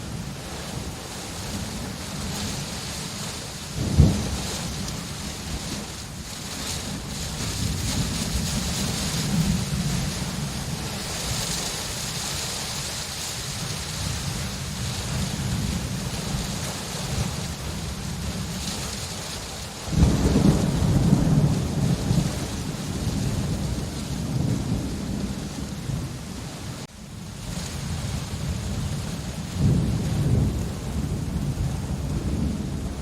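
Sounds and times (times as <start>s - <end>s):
steady rain: 0.0s - 33.0s
thunder rumbling: 0.0s - 33.0s.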